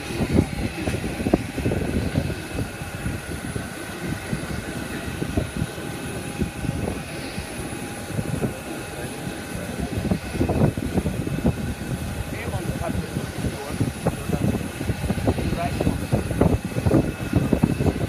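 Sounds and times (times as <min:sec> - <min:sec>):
jet airliner engine whine: 0:00.0 - 0:18.0.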